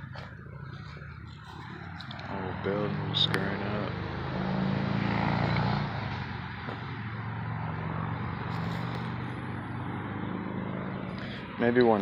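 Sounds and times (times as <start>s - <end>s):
distant motor engine droning: 0.0s - 12.0s.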